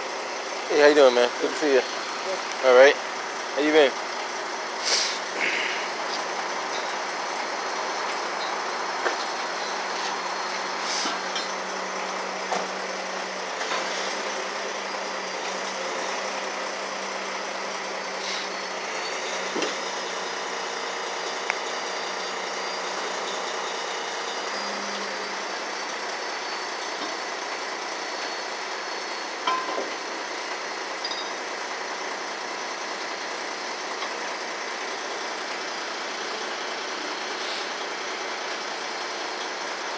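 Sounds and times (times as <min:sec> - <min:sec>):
tow truck engine running: 0:00.0 - 0:39.9.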